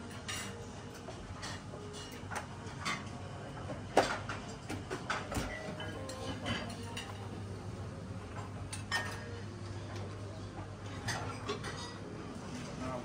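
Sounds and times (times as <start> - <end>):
dishes and cutlery clinking: 0.0 - 7.5, 8.3 - 13.0.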